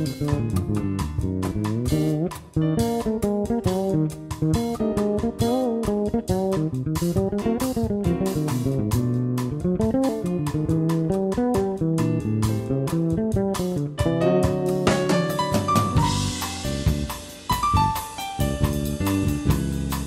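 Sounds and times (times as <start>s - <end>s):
double bass: 0.0s - 20.0s
plucked guitar melody: 0.0s - 20.0s.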